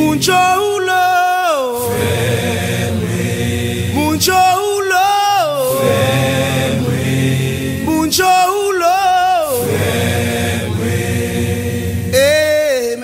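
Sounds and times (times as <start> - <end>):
backing voices humming: 0.0 - 12.7
lead voice chanting: 0.0 - 13.0.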